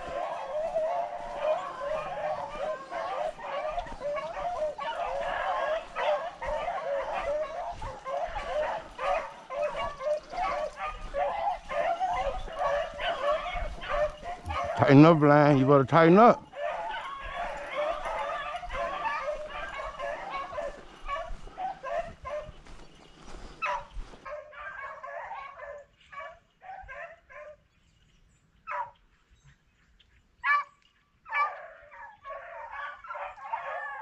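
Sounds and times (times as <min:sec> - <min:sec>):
hounds baying and barking: 0:00.0 - 0:34.0.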